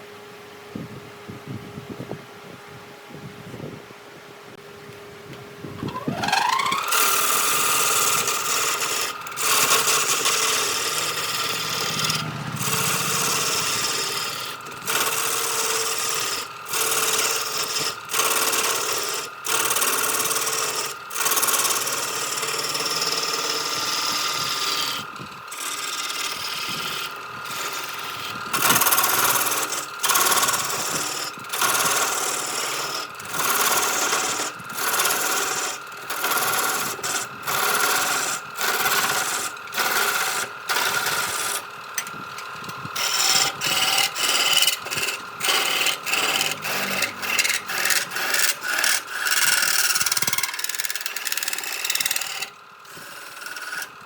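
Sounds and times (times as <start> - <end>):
power tool whining: 4.9 - 54.0
abrasive grinding against wood: 5.8 - 53.9.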